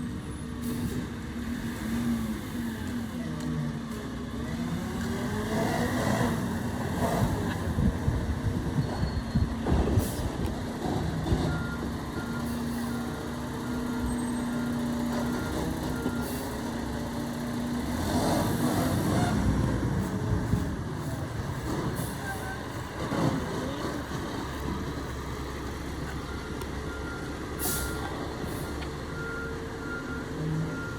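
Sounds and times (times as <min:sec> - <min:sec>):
garbage truck engine hum: 0:00.0 - 0:30.9.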